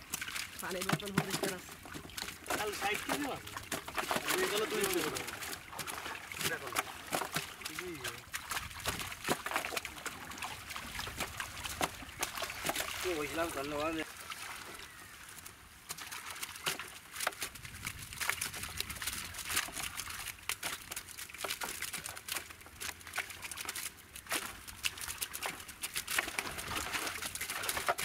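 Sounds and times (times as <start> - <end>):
wet rustling of prawns: 0.0 - 28.0.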